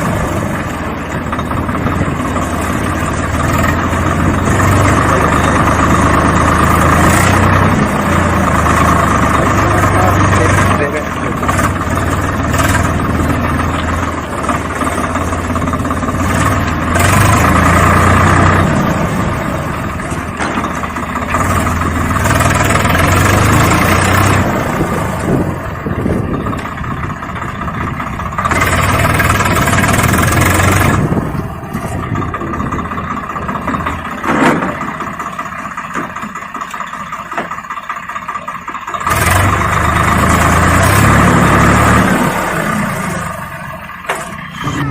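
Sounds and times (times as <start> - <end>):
engine humming: 0.0 - 44.9.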